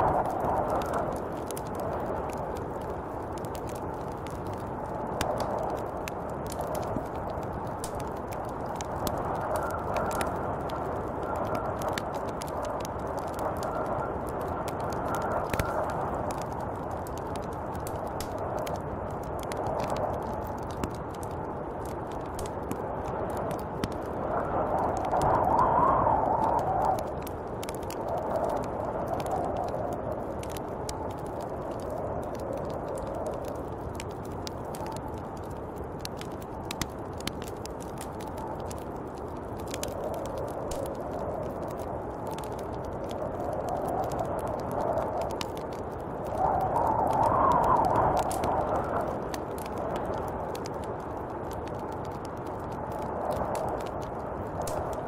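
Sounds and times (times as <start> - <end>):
small sharp ticks: 0.0 - 55.0
snowstorm wind blowing: 0.0 - 55.0.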